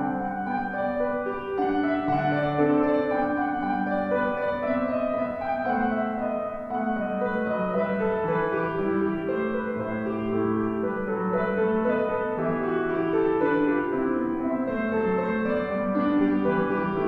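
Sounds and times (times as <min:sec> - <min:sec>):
solo piano chords and melody: 0:00.0 - 0:17.0.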